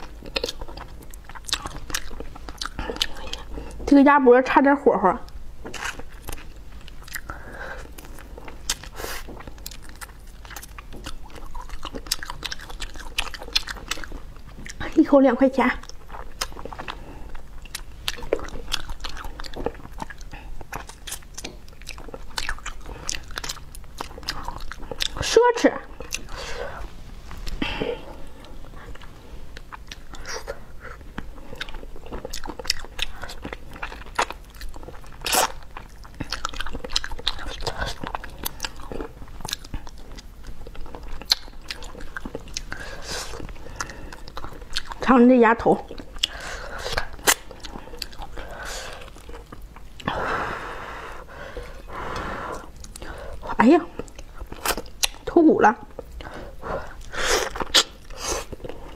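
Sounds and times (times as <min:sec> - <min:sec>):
chewing and sucking meat: 0:00.0 - 0:03.9, 0:05.3 - 0:58.9
person eating with wet mouth sounds: 0:00.0 - 0:03.9, 0:05.3 - 0:15.0, 0:15.8 - 0:58.9.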